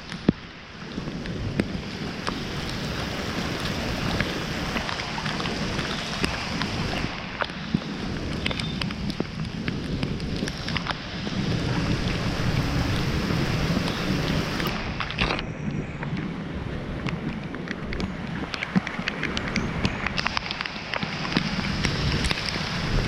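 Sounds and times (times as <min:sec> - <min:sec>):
steady rain: 0:00.0 - 0:23.0
wind rumble on microphone: 0:00.0 - 0:23.0.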